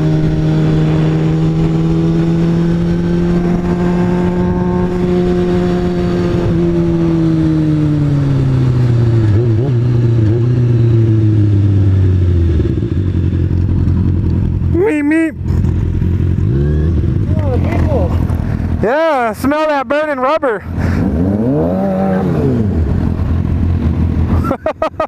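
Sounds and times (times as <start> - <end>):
motorcycle engine running: 0.0 - 19.1, 20.7 - 25.0.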